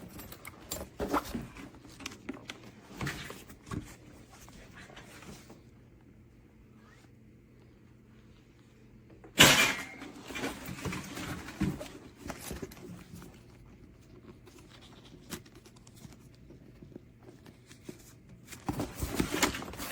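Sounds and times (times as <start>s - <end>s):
rustling handling noise: 0.0s - 9.3s, 10.0s - 19.9s.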